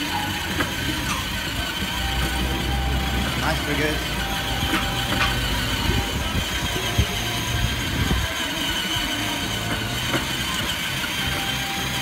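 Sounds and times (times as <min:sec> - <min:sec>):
plastic wheels on concrete: 0:00.0 - 0:12.0
ride-on toy car electric drive: 0:00.0 - 0:12.0
wheels crossing metal drain grate: 0:00.0 - 0:12.0.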